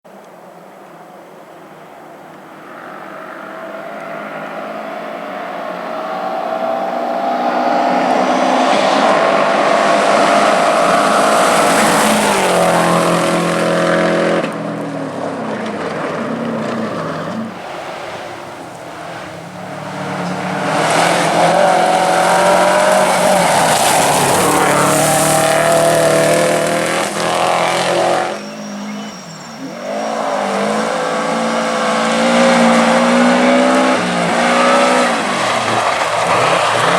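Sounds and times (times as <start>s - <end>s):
rally car engine revving: 2.3s - 36.9s
tire squeal: 2.4s - 36.9s.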